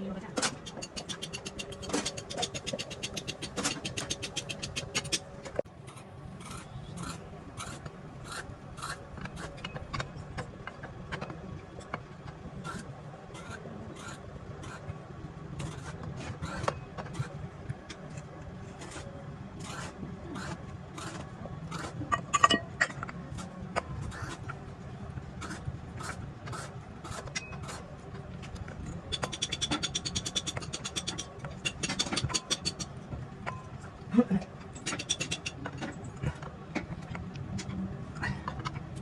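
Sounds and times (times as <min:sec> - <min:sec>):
repeated scraping strokes: 0:00.0 - 0:24.6, 0:25.2 - 0:32.9
low steady hum: 0:00.0 - 0:39.0.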